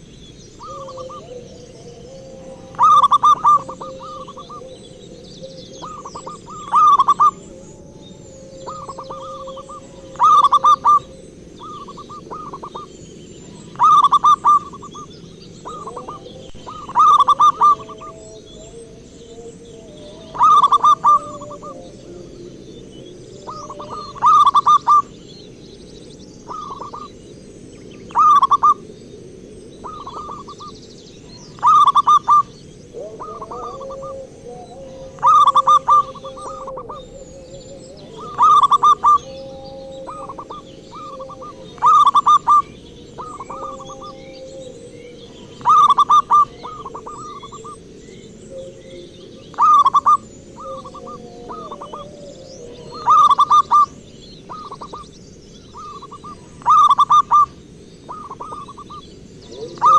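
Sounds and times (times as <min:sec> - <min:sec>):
dove cooing: 0:00.0 - 0:25.4, 0:26.5 - 0:27.2, 0:27.9 - 0:28.9, 0:29.5 - 0:59.9
faint bird chirps: 0:00.0 - 0:29.2, 0:29.8 - 0:59.9.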